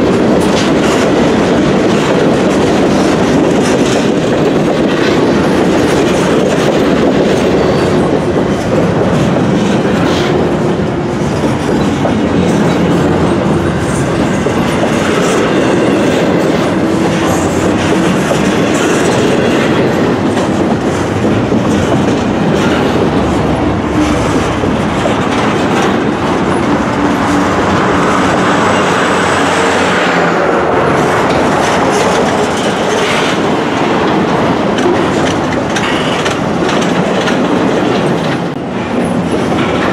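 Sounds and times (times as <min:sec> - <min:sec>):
freight train rumble: 0:00.0 - 0:39.9
wheels clacking over rail joints: 0:00.0 - 0:39.9.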